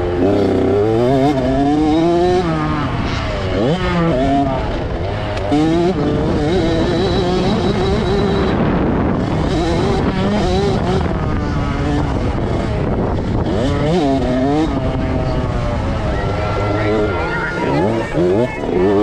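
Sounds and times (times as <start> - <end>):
motocross engines revving: 0.0 - 19.0.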